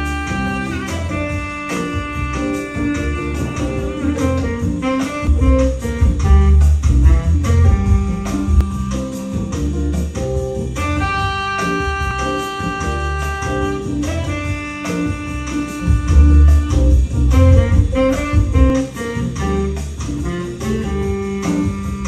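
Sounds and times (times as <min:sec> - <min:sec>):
music with strong bass line: 0:00.0 - 0:22.0.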